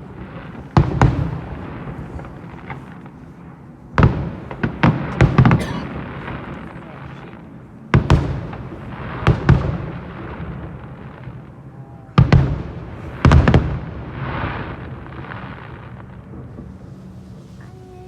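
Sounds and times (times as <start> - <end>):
fireworks bursting with bangs: 0.0 - 18.0.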